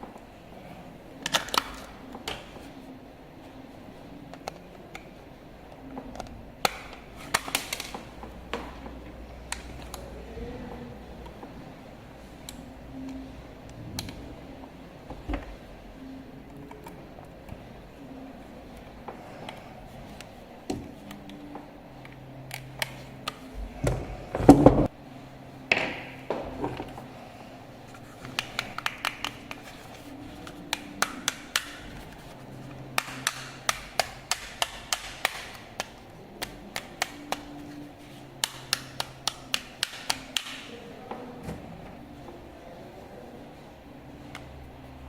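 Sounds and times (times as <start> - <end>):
faint hum: 0.0 - 45.0.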